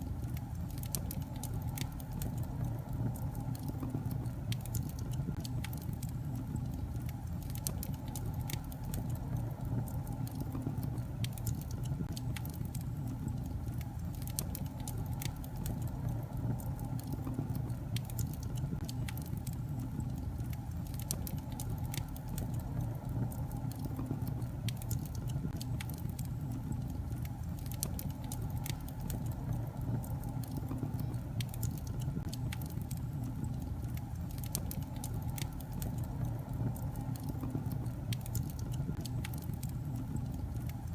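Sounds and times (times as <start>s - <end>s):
fire rumbling: 0.0s - 40.9s
logs crackling and popping: 0.0s - 40.9s.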